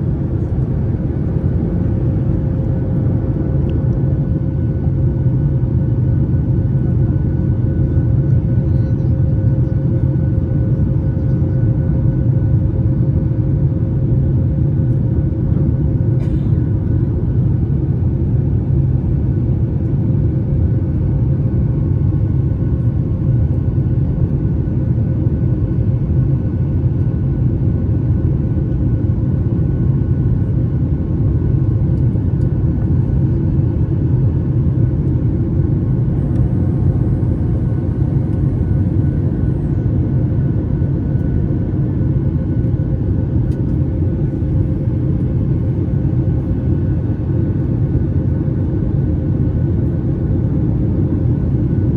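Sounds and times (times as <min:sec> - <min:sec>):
jet engines rumbling: 0:00.0 - 0:51.9.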